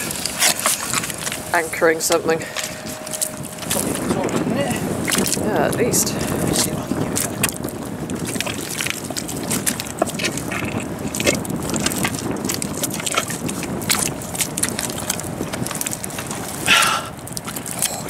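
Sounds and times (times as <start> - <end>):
mud and shingle crunching: 0.0 - 18.0
water rushing: 0.0 - 18.0
wind: 0.0 - 18.0.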